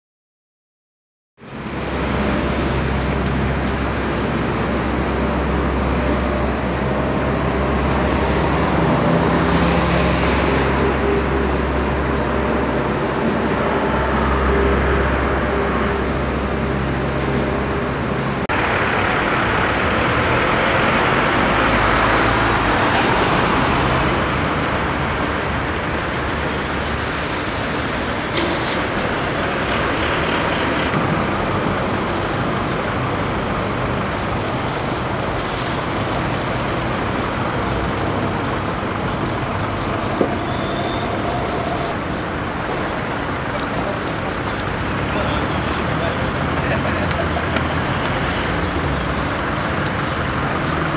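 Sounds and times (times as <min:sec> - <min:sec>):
road traffic: 0:01.4 - 0:50.9.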